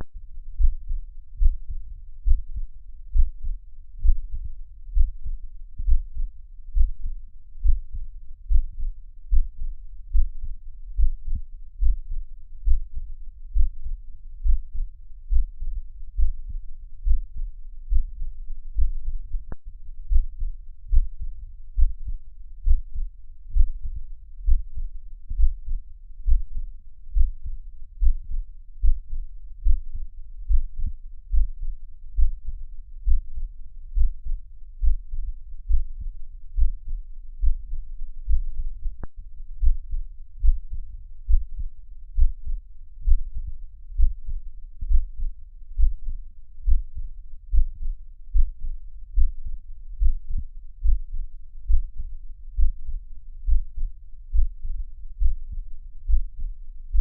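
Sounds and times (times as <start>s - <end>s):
heartbeat thuds: 0.0s - 57.0s.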